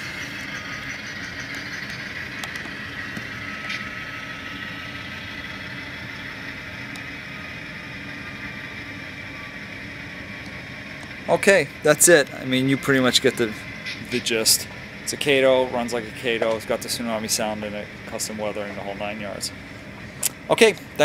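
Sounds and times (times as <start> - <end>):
diesel engine drone from small speaker: 0.0 - 21.0.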